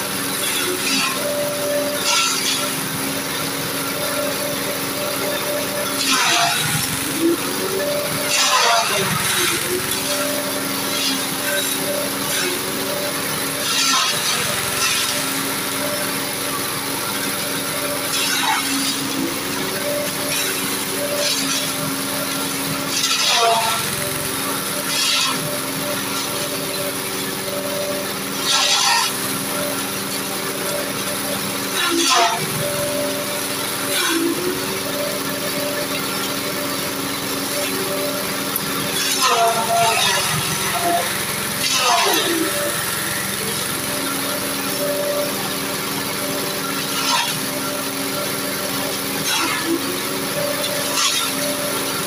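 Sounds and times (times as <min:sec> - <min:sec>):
machine shredding leafy branches: 0:00.0 - 0:52.0
stationary engine droning: 0:00.0 - 0:52.0.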